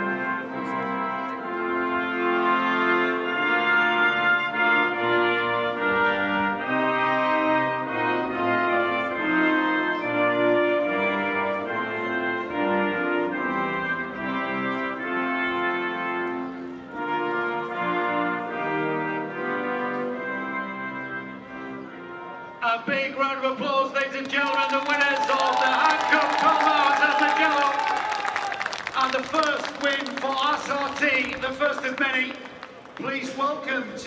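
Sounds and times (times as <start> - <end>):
brass and orchestra anthem: 0.0 - 34.0.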